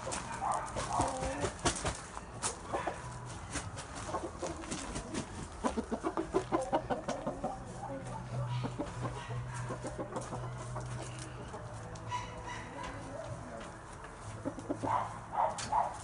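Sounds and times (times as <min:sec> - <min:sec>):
chickens clucking: 0:00.0 - 0:15.9.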